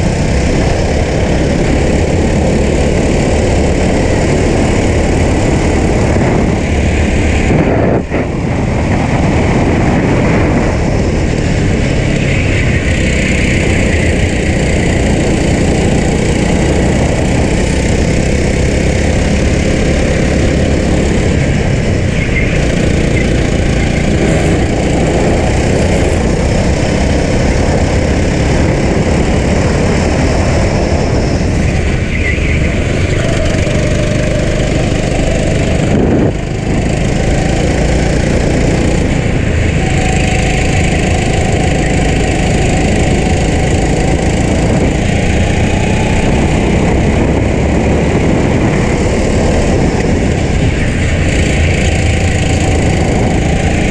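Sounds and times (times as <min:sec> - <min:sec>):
go-kart engine running hard: 0:00.0 - 0:53.9
rushing wind noise: 0:00.0 - 0:53.9.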